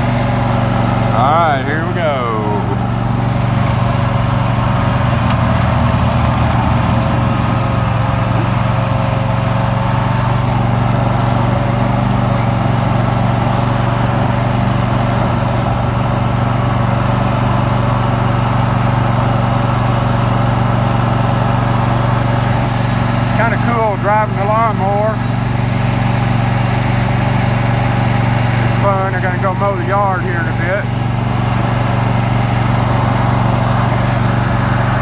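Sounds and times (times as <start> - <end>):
lawn mower engine humming: 0.0 - 35.0.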